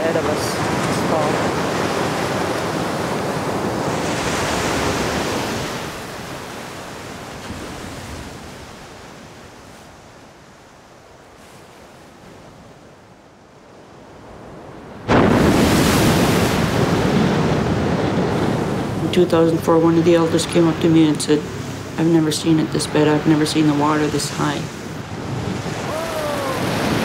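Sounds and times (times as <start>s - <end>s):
storm surf breaking on sea wall: 0.0s - 10.5s, 13.7s - 27.0s
wind: 0.0s - 27.0s.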